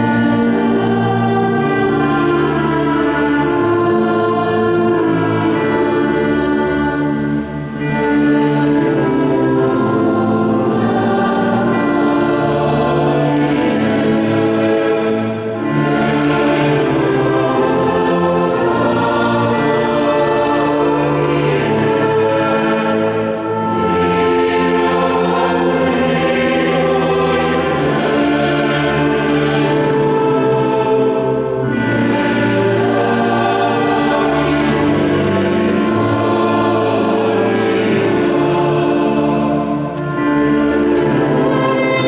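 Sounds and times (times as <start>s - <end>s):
mixed choir singing: 0.0s - 42.0s
wind band accompanying: 0.0s - 42.0s.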